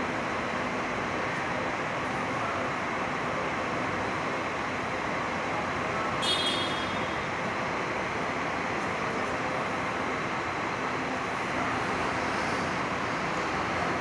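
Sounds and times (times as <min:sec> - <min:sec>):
bus diesel engines running: 0:00.0 - 0:14.0.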